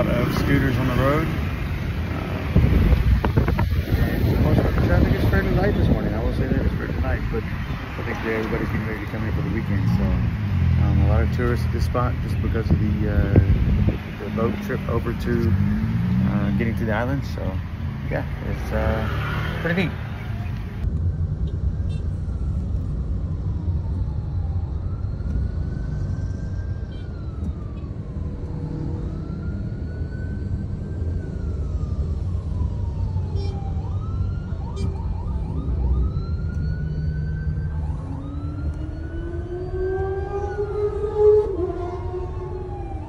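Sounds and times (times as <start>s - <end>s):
siren wailing: 0.0s - 43.0s.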